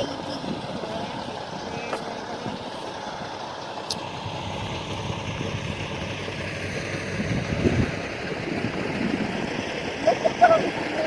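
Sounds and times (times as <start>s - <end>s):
vehicle noise: 0.0s - 11.0s
wind: 0.0s - 11.0s.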